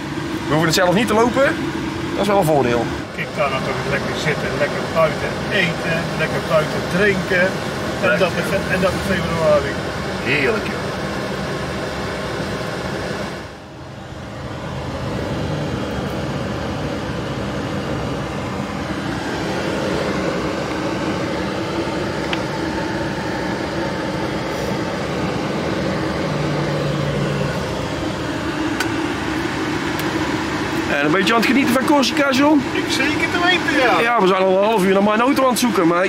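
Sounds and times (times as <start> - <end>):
truck engine and road noise: 0.0 - 36.0.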